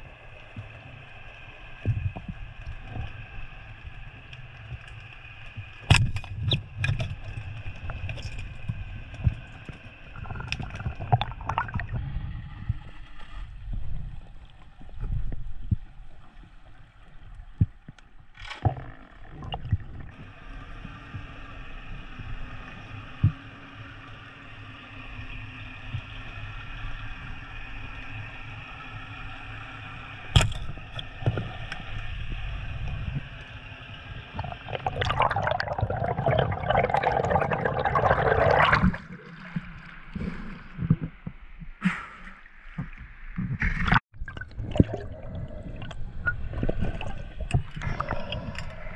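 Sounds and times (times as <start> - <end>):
muffled underwater rumble: 0.0 - 48.9.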